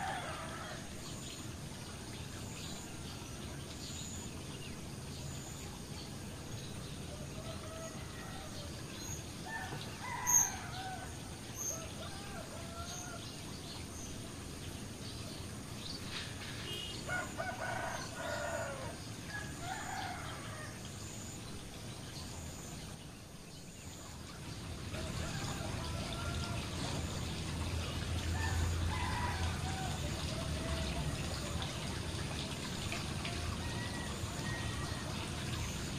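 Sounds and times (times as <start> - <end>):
fountain and waterfall splashing: 0.0 - 35.9.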